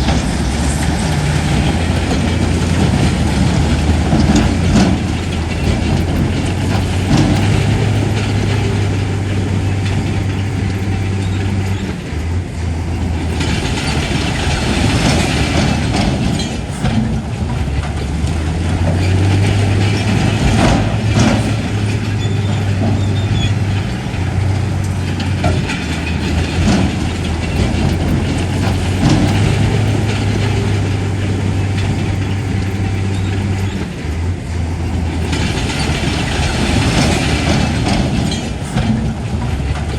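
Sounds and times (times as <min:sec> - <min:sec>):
bulldozer engine under load: 0:00.0 - 0:39.9
metallic clanks: 0:00.0 - 0:39.9
steel crawler tracks clattering: 0:00.0 - 0:39.9.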